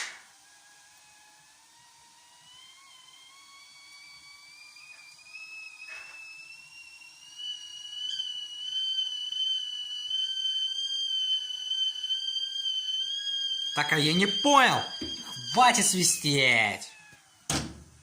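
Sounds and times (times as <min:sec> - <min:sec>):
whistling kettle: 0:00.0 - 0:17.6.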